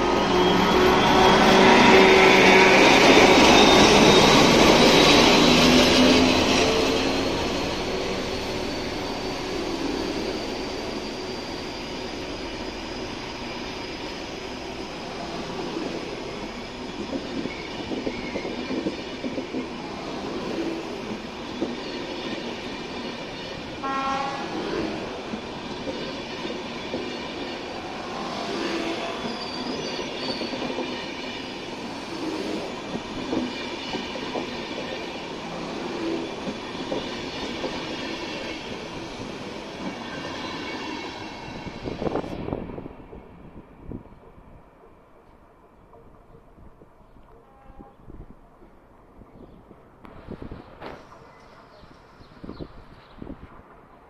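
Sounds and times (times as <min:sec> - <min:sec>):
high squeal from train wheels: 0:00.0 - 0:44.7
train rumbling past: 0:00.0 - 0:54.0.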